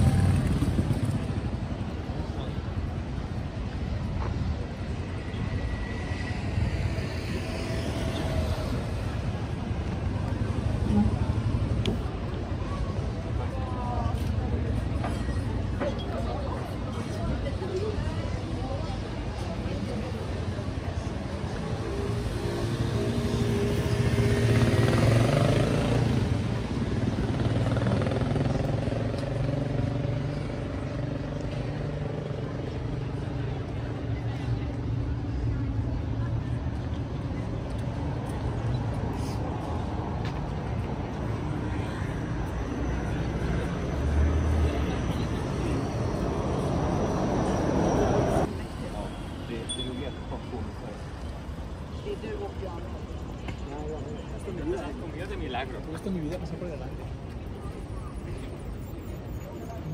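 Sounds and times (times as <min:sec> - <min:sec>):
city street low rumble: 0:00.0 - 0:59.9.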